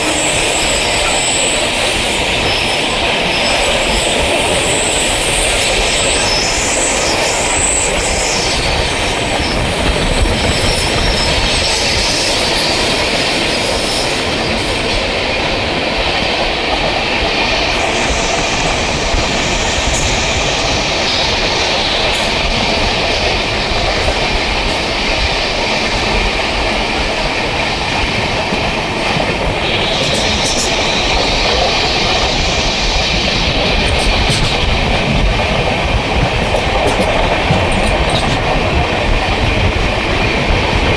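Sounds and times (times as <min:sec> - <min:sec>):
train wheels on track: 0:00.0 - 0:40.9.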